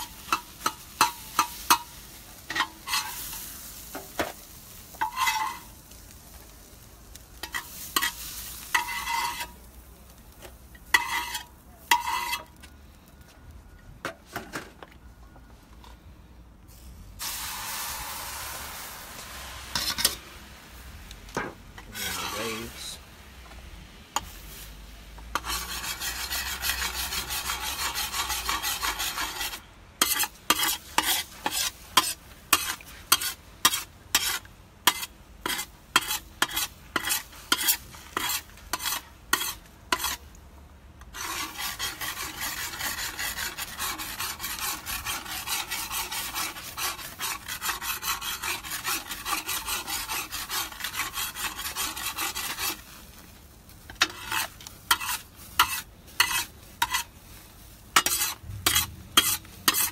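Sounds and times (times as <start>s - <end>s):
utensil scraping a pan: 0.0s - 5.8s, 7.4s - 9.7s, 10.4s - 12.6s, 17.2s - 20.2s, 21.8s - 23.0s, 25.3s - 40.2s, 41.0s - 59.9s
food sizzling: 0.0s - 12.6s, 17.2s - 40.4s, 41.1s - 59.9s.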